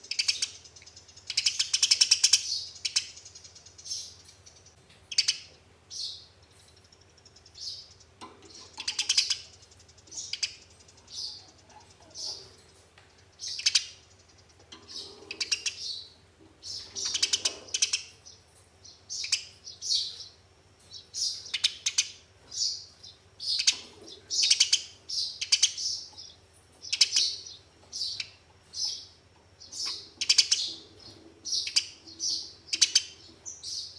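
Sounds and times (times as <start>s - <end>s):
faint low hum: 0.0s - 33.9s
sparrows chirping and chattering: 0.0s - 33.9s.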